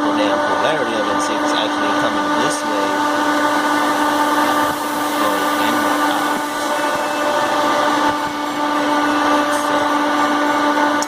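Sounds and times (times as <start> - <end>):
electric fan motor humming: 0.0 - 11.0.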